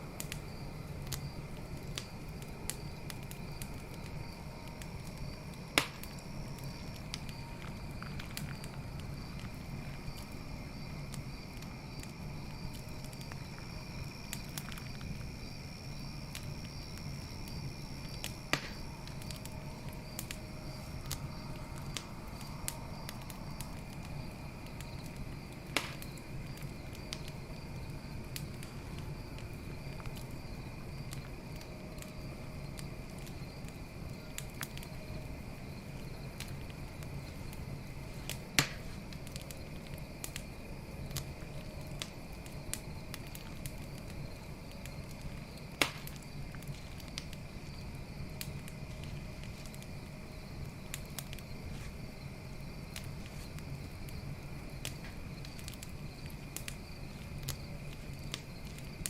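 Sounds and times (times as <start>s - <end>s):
campfire crackling: 0.0s - 59.0s
night insects trilling: 0.0s - 59.0s.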